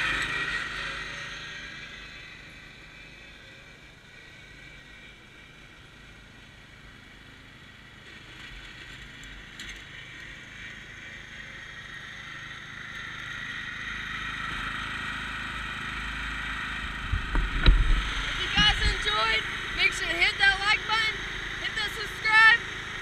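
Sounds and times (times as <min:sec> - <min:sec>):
riding lawn mower engine: 0:00.0 - 0:23.0.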